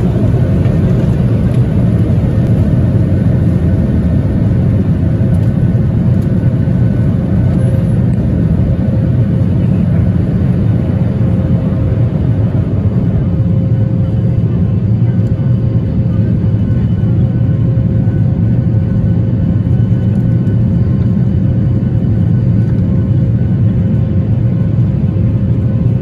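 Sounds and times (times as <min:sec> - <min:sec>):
jet engines low rumble: 0:00.0 - 0:26.0.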